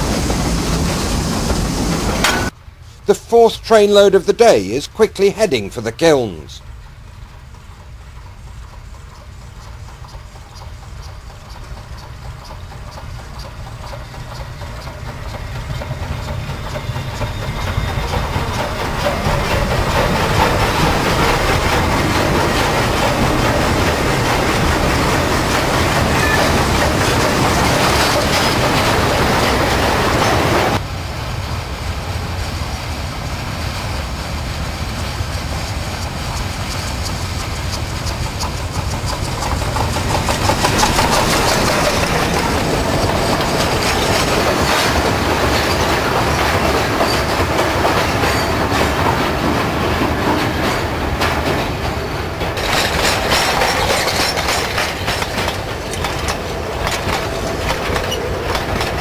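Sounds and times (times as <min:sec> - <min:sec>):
steam locomotive passing: 0:00.0 - 0:59.0
train running steadily: 0:00.0 - 0:59.0.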